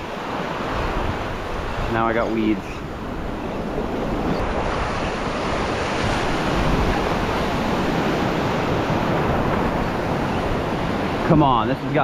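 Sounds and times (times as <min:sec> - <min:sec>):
waves breaking: 0:00.0 - 0:12.0
wind rumbling on microphone: 0:00.0 - 0:12.0.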